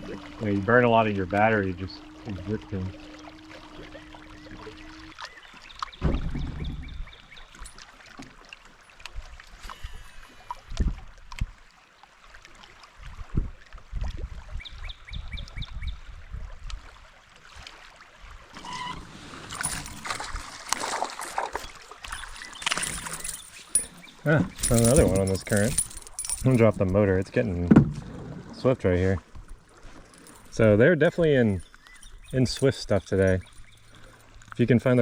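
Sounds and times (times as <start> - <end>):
water moving: 0.0 - 13.3, 16.6 - 35.0.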